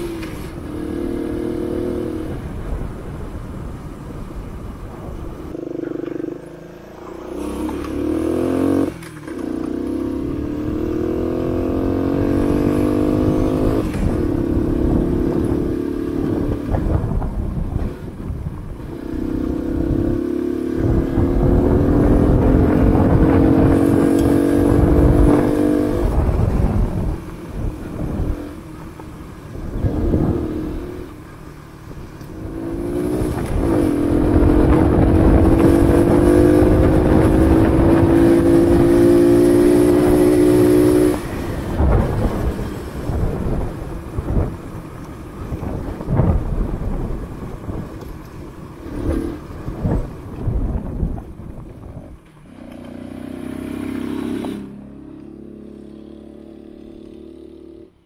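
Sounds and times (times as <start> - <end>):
motorcycle engine revving: 0.0 - 3.7, 5.0 - 58.0.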